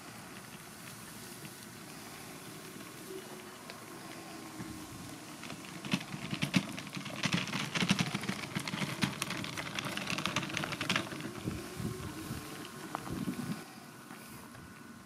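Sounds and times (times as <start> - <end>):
gravel crunching under wheels: 0.0 - 15.0.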